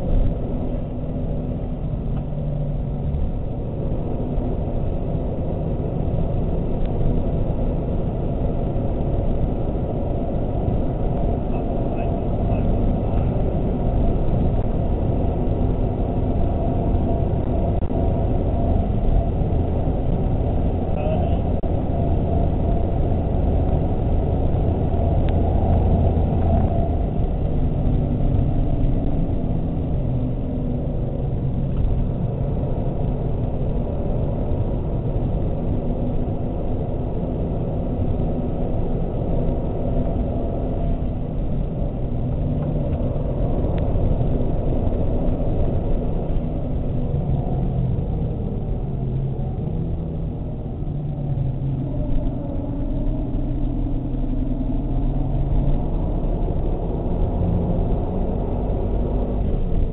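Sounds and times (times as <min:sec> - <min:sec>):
car engine under load: 0:00.0 - 0:59.9
road noise rumble: 0:00.0 - 0:59.9.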